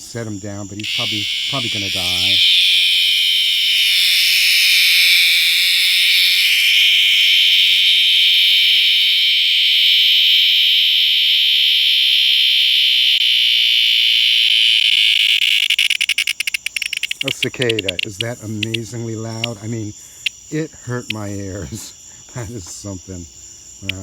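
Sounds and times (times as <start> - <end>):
cicada buzzing: 0.0 - 24.0.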